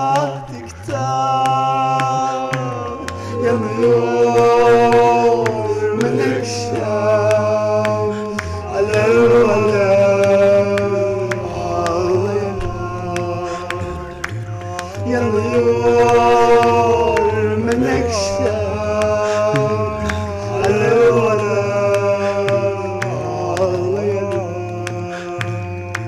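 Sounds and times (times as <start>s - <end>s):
man singing held notes: 0.0s - 26.0s.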